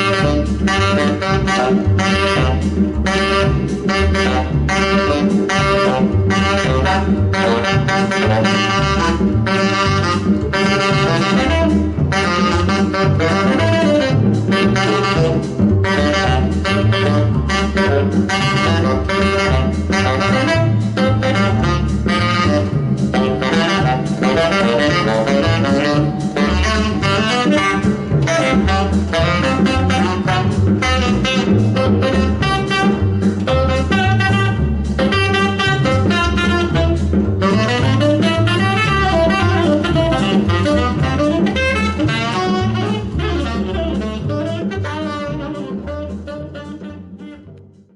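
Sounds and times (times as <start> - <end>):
double bass: 0.0 - 47.9
drums: 0.0 - 47.9
saxophone lead: 0.0 - 47.9.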